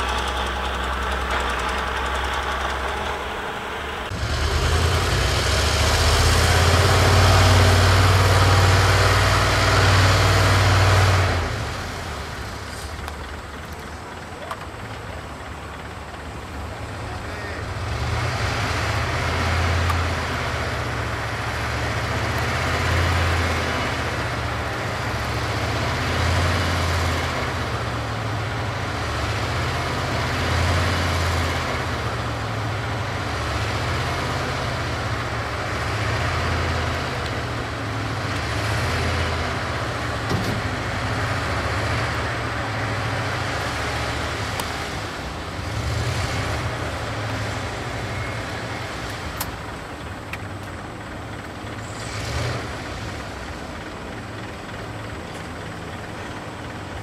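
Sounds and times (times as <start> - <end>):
diesel truck engine drone: 0.0 - 57.0.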